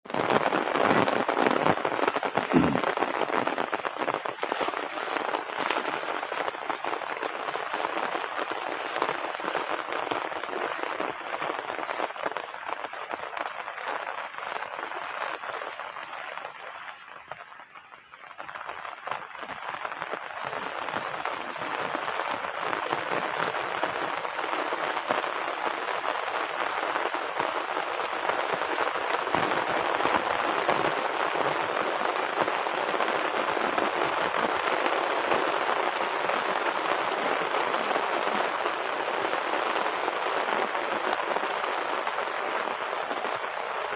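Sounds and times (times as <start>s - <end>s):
heavy rain pattering: 0.0s - 43.9s.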